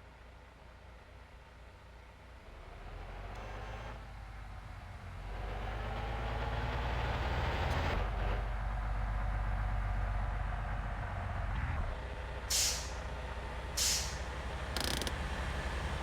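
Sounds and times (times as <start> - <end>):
heavy vehicle rumble: 2.6 - 16.0.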